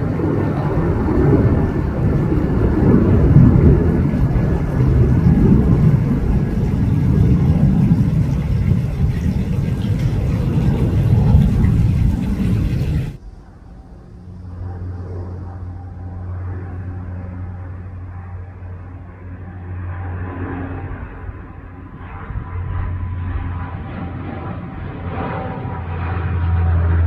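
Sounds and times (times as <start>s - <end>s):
jet airliner passing overhead: 0.0s - 27.0s.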